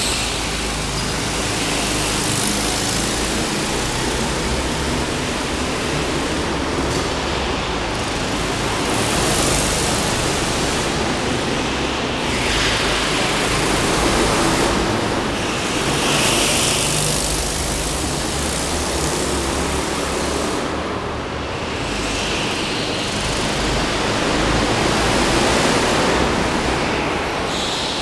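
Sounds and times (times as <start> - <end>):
go-kart engines running: 0.0 - 28.0.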